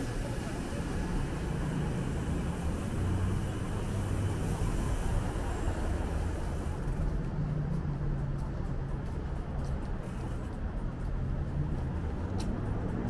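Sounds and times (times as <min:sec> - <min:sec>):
city traffic noise: 0:00.0 - 0:13.0
low engine hum: 0:00.0 - 0:13.0.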